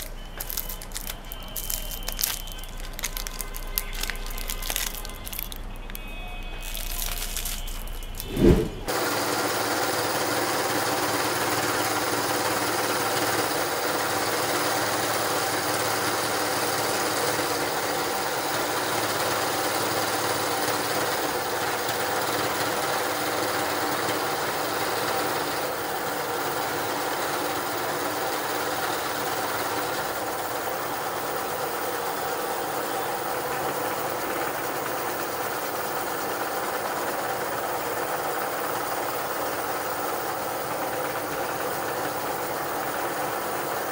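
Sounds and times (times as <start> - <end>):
meat grinder motor whining: 0.0 - 8.2, 8.9 - 43.9.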